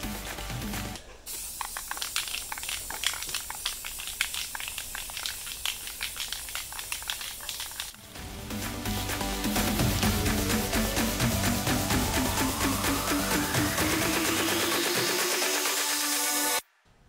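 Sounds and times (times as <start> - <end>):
aerosol spray can hissing: 1.3 - 16.6.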